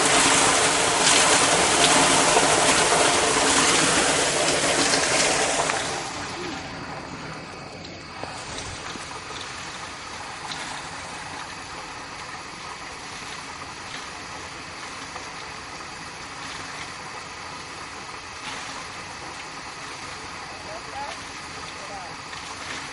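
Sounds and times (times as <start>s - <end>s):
floodwater rushing: 0.0s - 22.9s.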